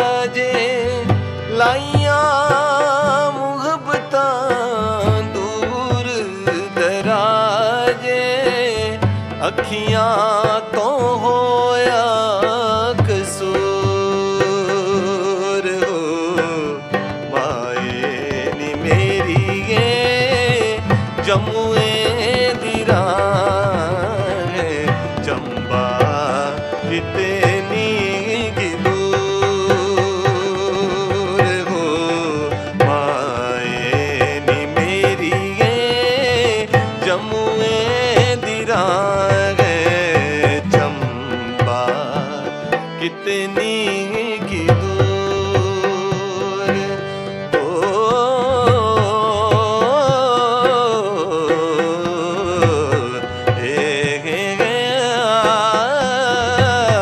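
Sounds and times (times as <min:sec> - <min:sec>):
harmonium: 0:00.0 - 0:57.0
tabla rhythm: 0:00.0 - 0:57.0.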